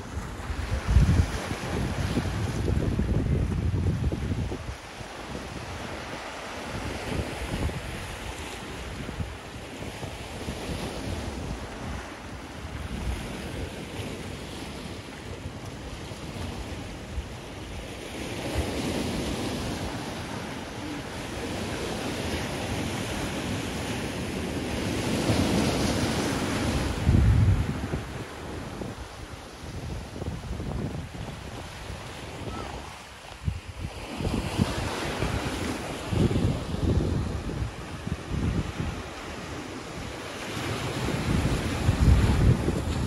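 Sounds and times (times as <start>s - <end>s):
sea waves washing in: 0.0s - 43.0s
wind buffeting microphone: 0.0s - 43.0s.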